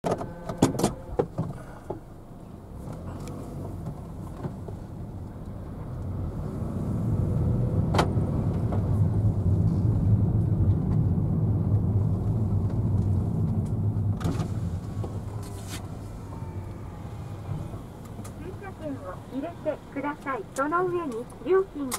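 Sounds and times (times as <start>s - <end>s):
car engine and tyre rumble: 0.0s - 21.9s.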